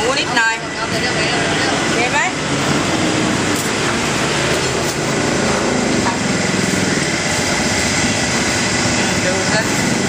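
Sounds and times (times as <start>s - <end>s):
gas burner roaring: 0.0s - 10.0s.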